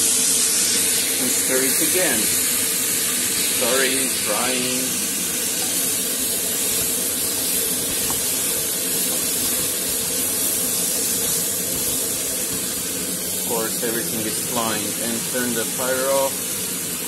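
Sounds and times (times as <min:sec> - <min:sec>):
food sizzling in a wok: 0:00.0 - 0:17.0.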